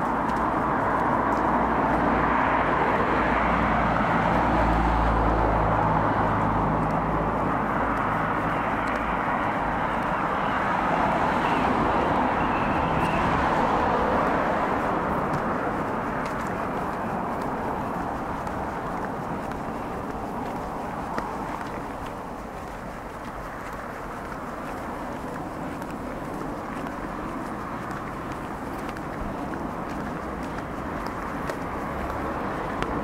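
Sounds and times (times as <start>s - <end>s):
low engine rumble: 0.0s - 33.0s
vehicles rushing on road: 0.0s - 33.0s.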